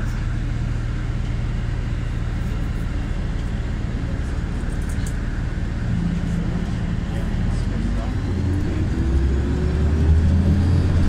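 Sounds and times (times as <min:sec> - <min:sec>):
bus engine droning: 0:00.0 - 0:11.0
cabin rumble: 0:00.0 - 0:11.0.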